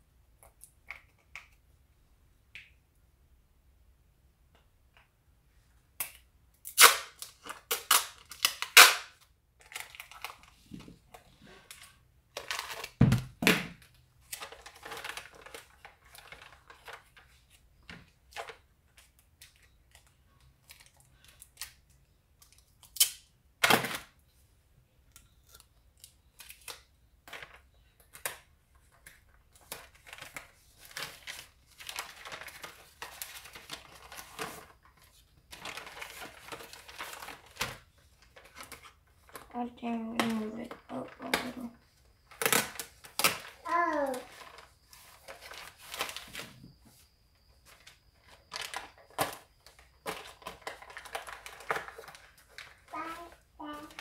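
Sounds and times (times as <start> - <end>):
paper and plastic crinkling: 7.1 - 13.4, 14.2 - 23.0, 25.5 - 54.0.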